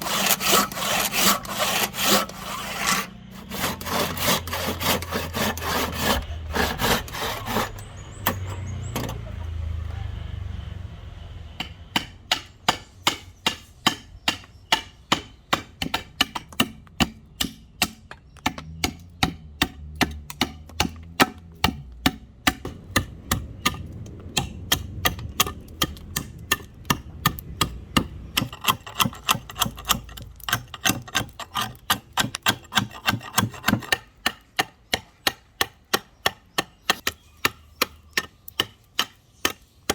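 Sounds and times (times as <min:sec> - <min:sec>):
sawing through wood: 0:00.0 - 0:08.7, 0:11.6 - 0:39.9.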